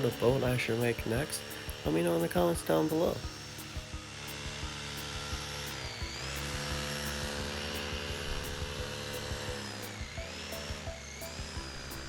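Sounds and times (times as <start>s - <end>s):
background music with steady beat: 0.0s - 12.0s
toy fan propeller whining: 0.0s - 12.0s.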